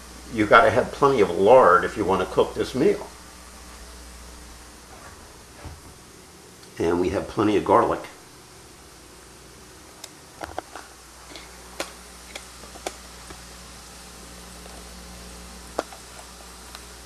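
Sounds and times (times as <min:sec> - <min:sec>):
faint hiss: 0:00.0 - 0:17.0
low hum: 0:00.0 - 0:17.0.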